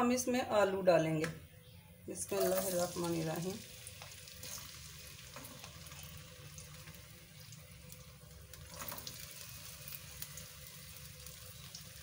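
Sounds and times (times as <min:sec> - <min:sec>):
potatoes sizzling in hot oil: 0:02.3 - 0:12.0.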